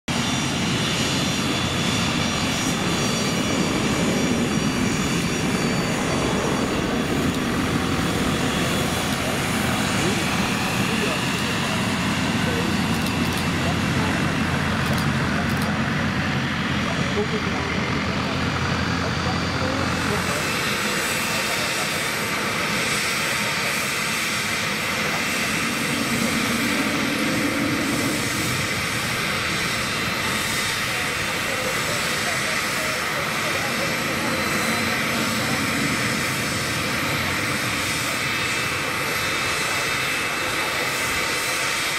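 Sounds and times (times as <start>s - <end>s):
jet engines rushing and whining: 0.1s - 41.9s.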